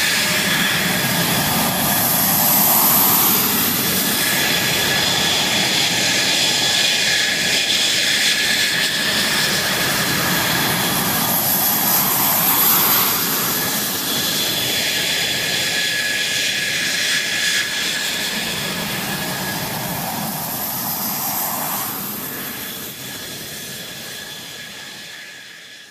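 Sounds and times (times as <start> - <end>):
jet engine whining roar: 0.0 - 25.9.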